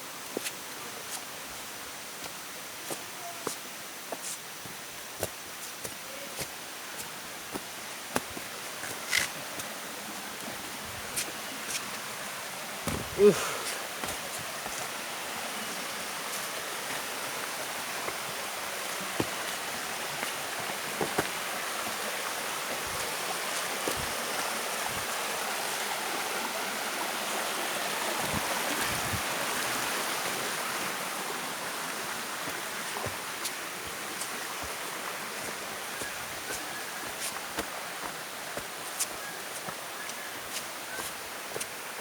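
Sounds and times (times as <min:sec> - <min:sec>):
rushing stream water: 0:00.0 - 0:42.0.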